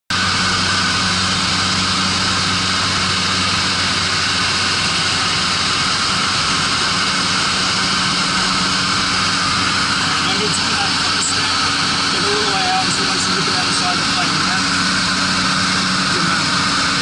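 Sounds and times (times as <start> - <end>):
low steady hum: 0.1 - 17.0
plane engine drone: 0.1 - 17.0.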